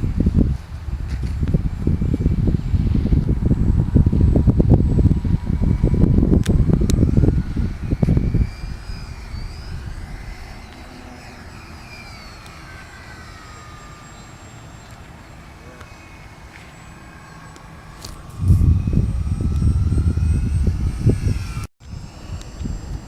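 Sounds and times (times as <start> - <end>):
model plane motors whining: 0.0 - 23.0
wind buffeting microphone: 0.0 - 23.0.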